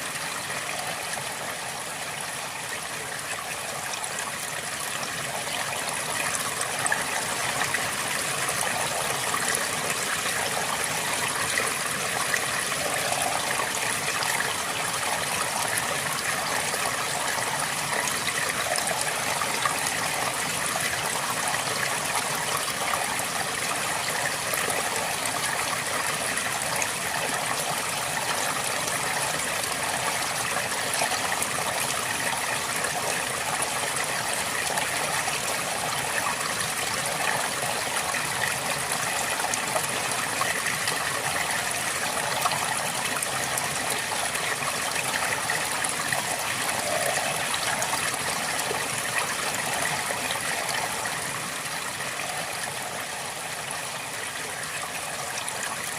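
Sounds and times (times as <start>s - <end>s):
river flowing over stones: 0.0s - 55.9s.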